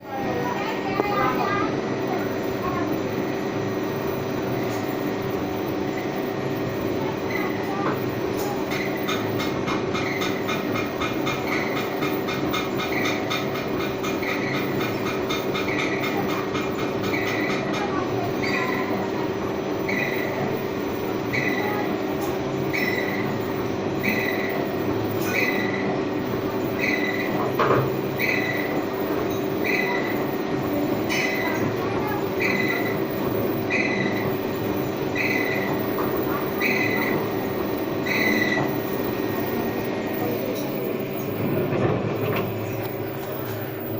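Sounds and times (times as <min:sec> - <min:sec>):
lathe mechanical hum: 0:00.0 - 0:43.9.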